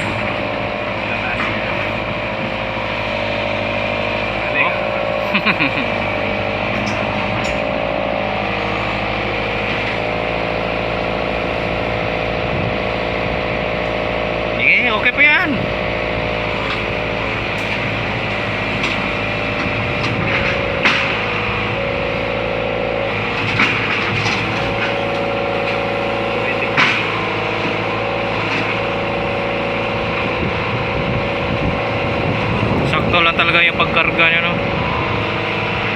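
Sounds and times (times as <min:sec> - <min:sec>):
backhoe diesel engine running: 0:00.0 - 0:35.9
hydraulic whine: 0:00.0 - 0:35.9.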